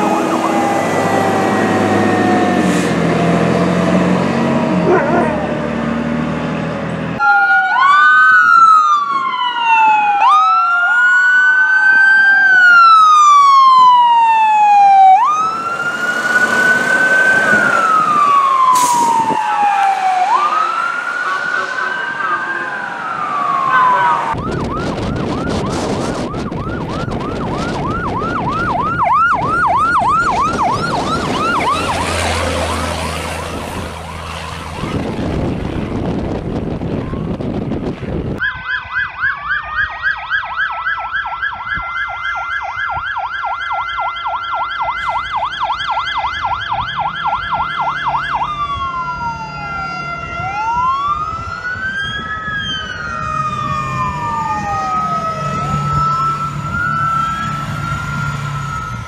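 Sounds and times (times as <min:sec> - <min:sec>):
siren yelping: 0:00.0 - 0:06.0, 0:07.2 - 0:37.8, 0:38.4 - 0:59.0
siren wailing: 0:00.0 - 0:06.5, 0:07.1 - 0:59.0
truck engine and road noise: 0:00.0 - 0:59.0.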